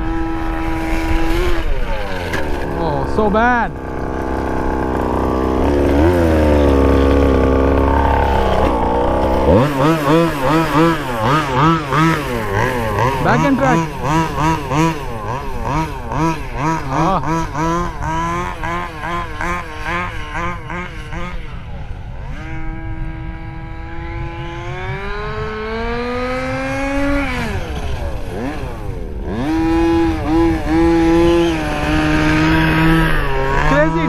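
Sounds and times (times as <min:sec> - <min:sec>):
small two-stroke engine revving: 0:00.0 - 0:34.0.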